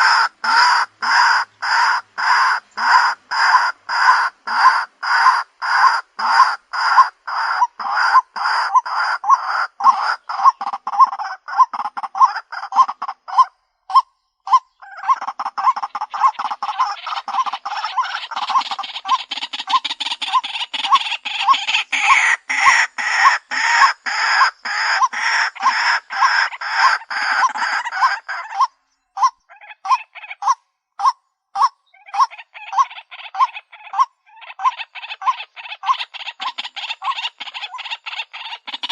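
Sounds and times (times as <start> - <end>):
waterhen harsh calls: 0.0 - 38.9.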